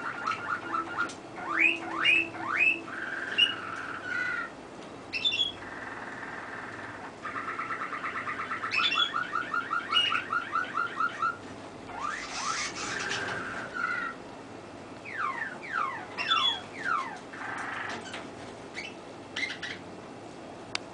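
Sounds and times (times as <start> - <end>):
canary trilling and whistling: 0.0 - 4.5, 5.1 - 14.2, 15.0 - 19.8.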